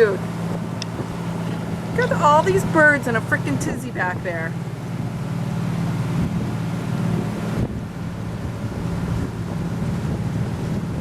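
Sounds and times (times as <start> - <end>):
boat engines droning: 0.0 - 11.0
wind buffeting microphone: 0.0 - 11.0.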